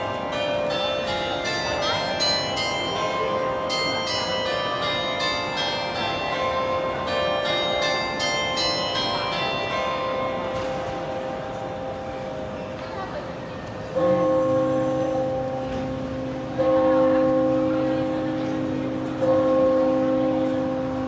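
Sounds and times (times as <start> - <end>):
clock bells chiming a melody: 0.0 - 21.0.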